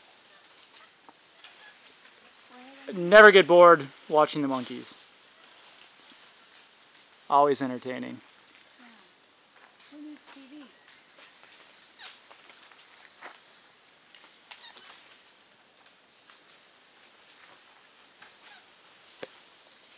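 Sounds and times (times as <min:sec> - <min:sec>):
high-pitched insect drone: 0:00.0 - 0:19.9.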